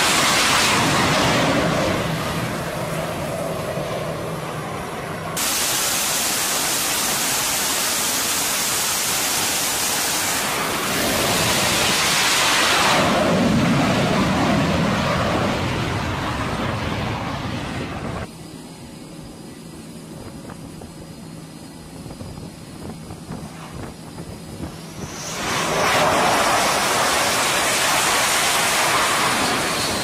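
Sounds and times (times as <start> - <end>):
fighter jet engine roaring: 0.0 - 30.0.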